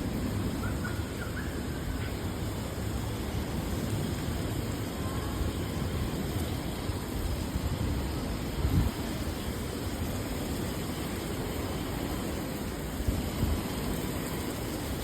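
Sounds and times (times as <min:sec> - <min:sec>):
rain hissing: 0:00.0 - 0:15.0
wet traffic: 0:00.0 - 0:15.0.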